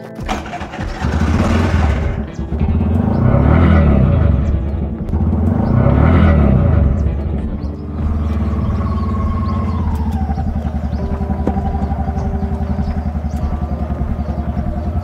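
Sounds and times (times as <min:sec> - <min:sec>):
motorcycle engine idling: 0:00.2 - 0:15.0.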